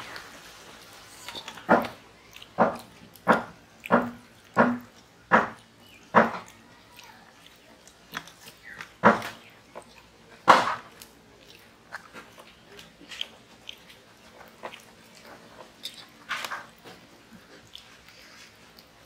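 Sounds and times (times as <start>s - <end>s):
chewing: 0.0s - 19.0s
hands squishing rice on plates: 0.0s - 19.0s.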